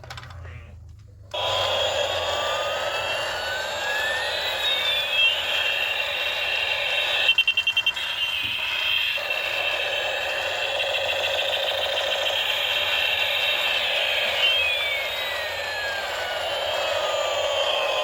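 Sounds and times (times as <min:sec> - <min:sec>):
rapid electronic pulses: 0:01.4 - 0:18.0.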